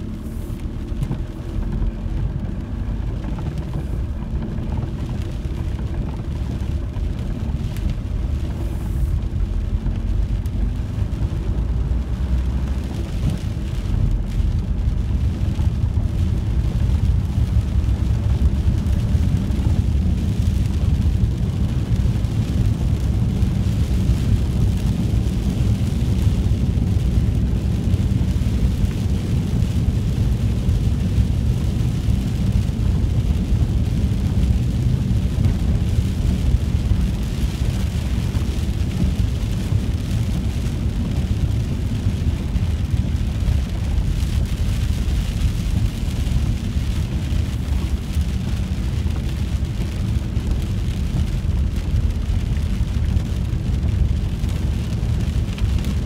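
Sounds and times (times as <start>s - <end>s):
engine and tyres rumbling: 0.0s - 56.0s
rain and spray hissing: 0.0s - 56.0s.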